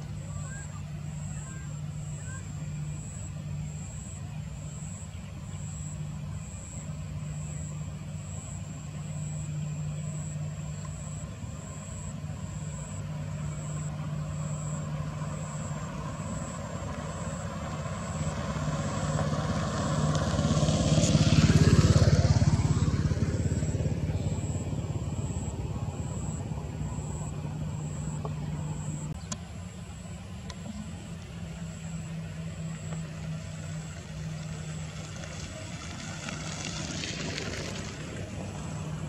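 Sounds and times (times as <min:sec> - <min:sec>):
propeller airliner engine drone: 0:00.0 - 0:39.0.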